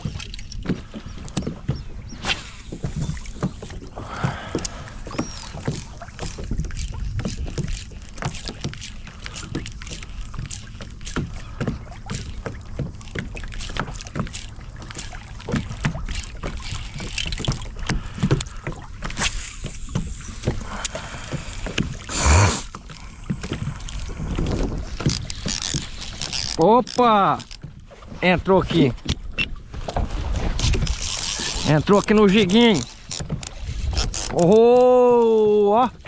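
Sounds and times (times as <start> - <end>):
light knocks and splashes: 0.0 - 22.1, 22.7 - 36.0
waves lapping against hull: 0.0 - 36.0.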